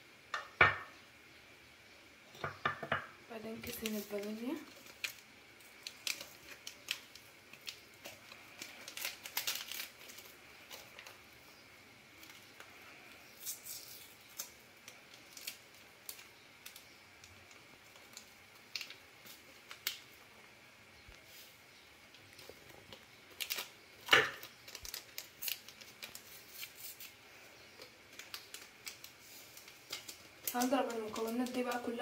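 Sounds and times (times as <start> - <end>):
steady hiss: 0.0 - 32.0
sachets crinkling and tearing: 3.4 - 20.3, 22.1 - 32.0.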